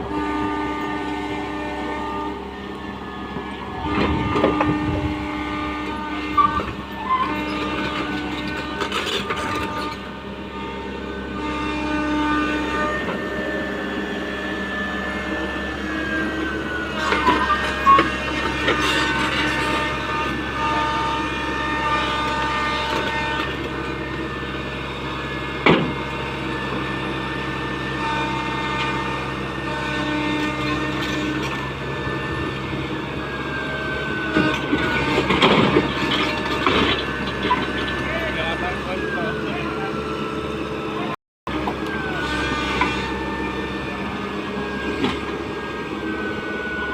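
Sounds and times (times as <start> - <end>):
excavator engine whine: 0.0 - 46.9.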